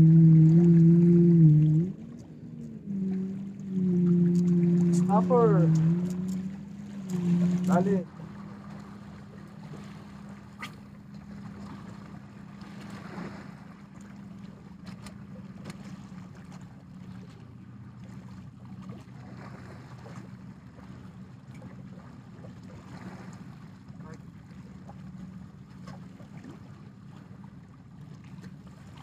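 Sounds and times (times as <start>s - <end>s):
small waves lapping on rocks: 0.0s - 29.0s
steady low hum: 0.0s - 29.0s.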